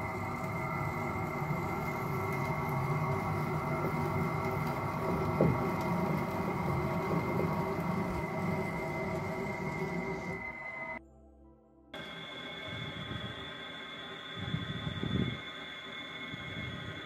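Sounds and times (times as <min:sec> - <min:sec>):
electric tapping machine running: 0:00.0 - 0:11.0, 0:12.0 - 0:17.0.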